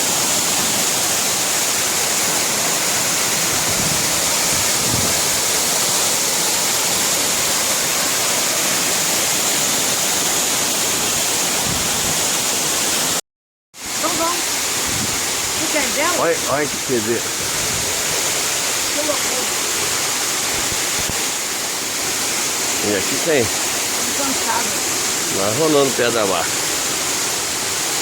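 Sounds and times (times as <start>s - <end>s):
waterfall roaring: 0.0s - 13.2s, 13.9s - 28.0s.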